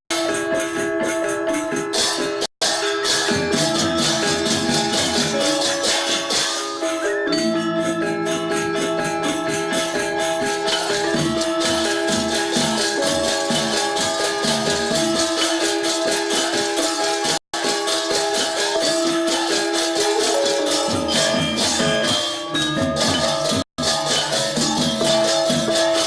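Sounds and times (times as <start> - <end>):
rapid metallic cymbal clashing: 0.1 - 7.1, 7.8 - 26.0
gamelan playing: 0.1 - 26.0
metallophone and gong tones: 2.7 - 26.0.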